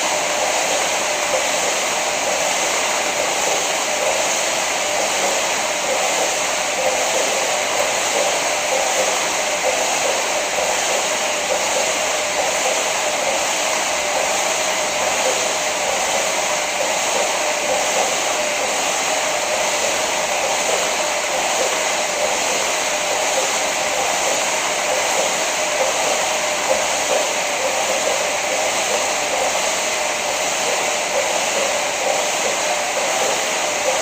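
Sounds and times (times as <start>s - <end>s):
fan flywheel whirring: 0.0s - 34.0s.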